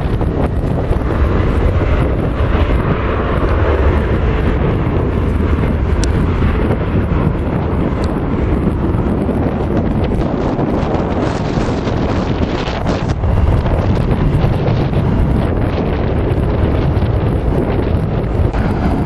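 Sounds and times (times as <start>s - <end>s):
jet engine noise: 0.0s - 19.0s
wind buffeting microphone: 0.0s - 19.0s.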